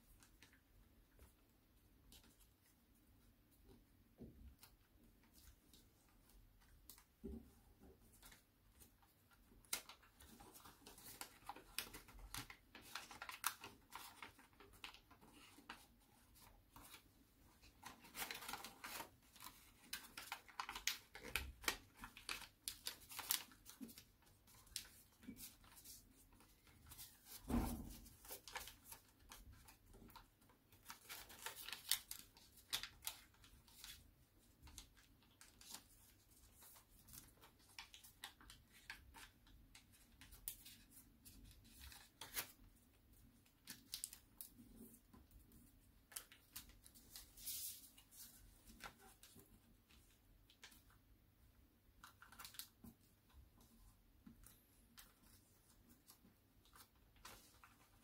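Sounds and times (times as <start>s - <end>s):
paper rustling and crackling: 4.4s - 51.1s, 51.9s - 58.0s.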